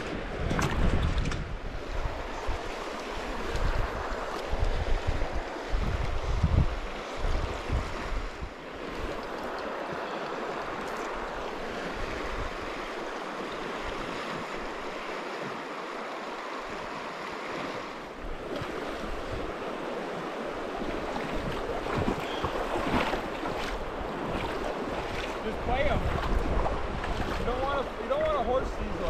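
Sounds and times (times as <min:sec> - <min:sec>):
river current rushing: 0:01.6 - 0:29.0.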